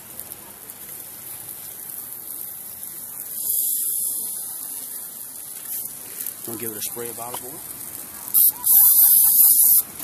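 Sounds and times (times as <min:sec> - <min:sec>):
food sizzling on grill: 0:00.0 - 0:10.0.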